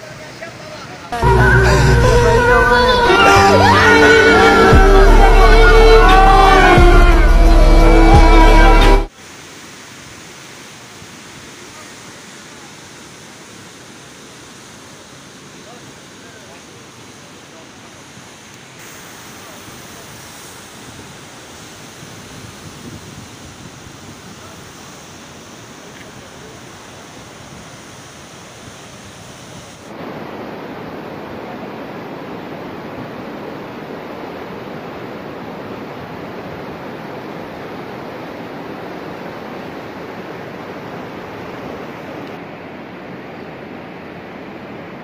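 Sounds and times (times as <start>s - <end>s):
river rushing roar: 0.0s - 45.0s.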